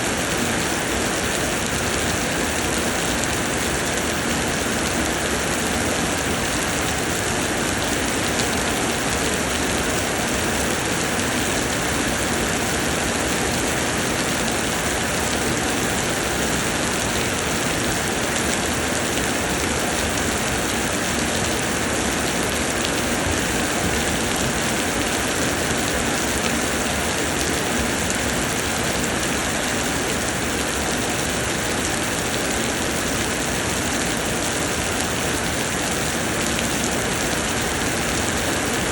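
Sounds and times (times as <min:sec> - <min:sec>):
rain pouring: 0:00.0 - 0:38.9.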